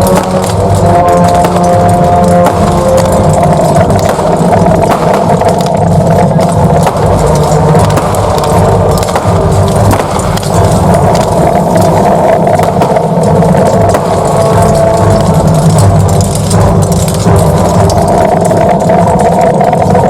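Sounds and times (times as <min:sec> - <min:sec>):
battle sound effects on loudspeakers: 0:00.0 - 0:20.0
steady low drone: 0:00.0 - 0:20.0.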